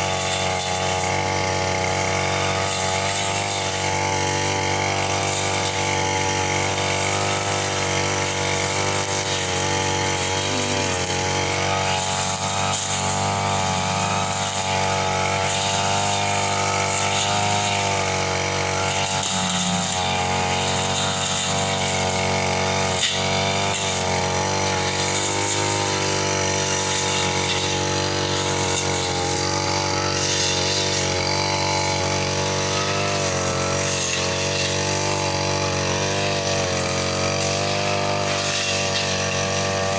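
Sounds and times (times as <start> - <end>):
brush cutter running: 0.0 - 39.9.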